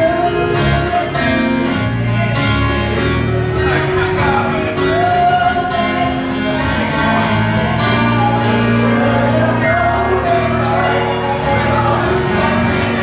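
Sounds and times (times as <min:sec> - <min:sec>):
gospel singing: 0:00.0 - 0:13.0
sustained instrumental chords: 0:00.0 - 0:13.0.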